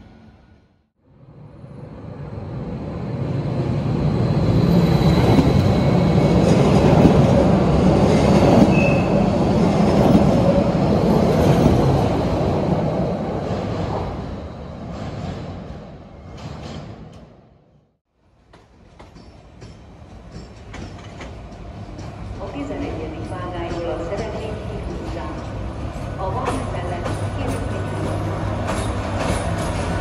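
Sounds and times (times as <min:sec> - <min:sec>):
electric train passing: 0:00.0 - 0:16.4, 0:18.3 - 0:30.0
train wheels on rails: 0:03.2 - 0:30.0.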